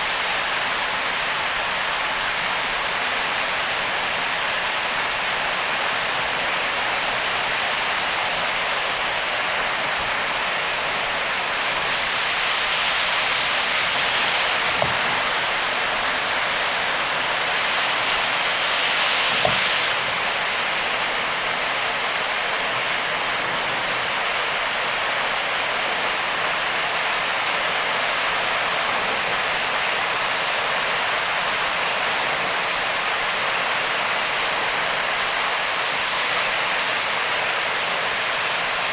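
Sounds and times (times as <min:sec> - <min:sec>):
rain and tyre spray hiss: 0:00.0 - 0:38.9.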